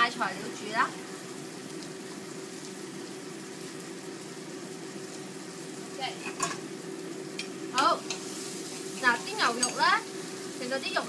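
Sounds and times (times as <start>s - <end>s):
beef sizzling in a pot: 0.0s - 11.0s.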